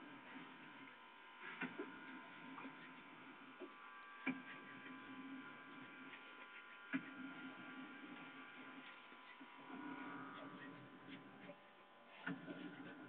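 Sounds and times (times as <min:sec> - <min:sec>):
quiet electrical hum: 0:00.0 - 0:13.0.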